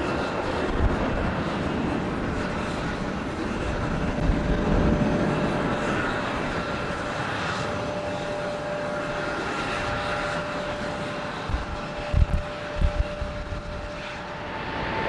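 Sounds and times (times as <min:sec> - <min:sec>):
jet engine high whine: 0:00.0 - 0:15.0
jet engine rush: 0:00.0 - 0:15.0.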